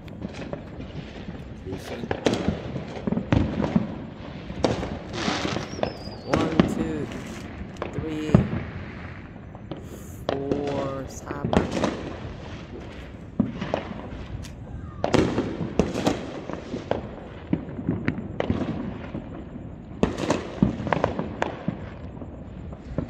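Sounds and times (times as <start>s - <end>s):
distant fireworks bangs: 0.0s - 23.0s.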